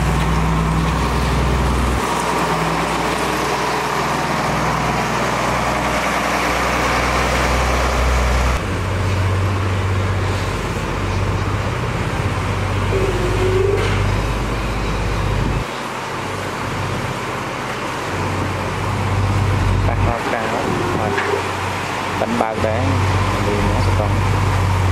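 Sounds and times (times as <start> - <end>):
heavy machinery engines humming: 0.0 - 24.9.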